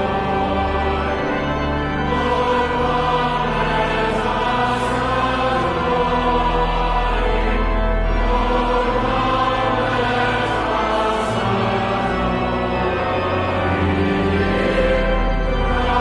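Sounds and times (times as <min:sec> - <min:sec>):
choir singing a hymn: 0:00.0 - 0:16.0
pipe organ chords: 0:00.0 - 0:16.0.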